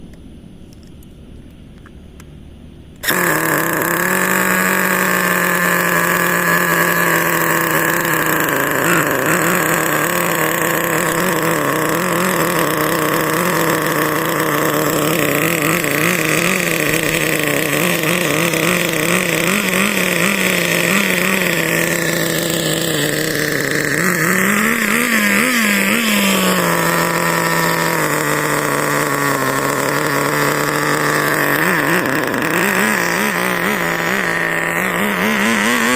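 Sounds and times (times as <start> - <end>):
model car nitro engine revving: 3.0 - 35.9.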